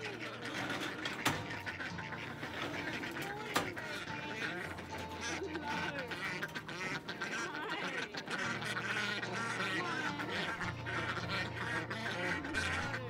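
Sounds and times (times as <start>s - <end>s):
background music with low notes: 0.0s - 13.0s
ducks quacking: 0.0s - 13.0s.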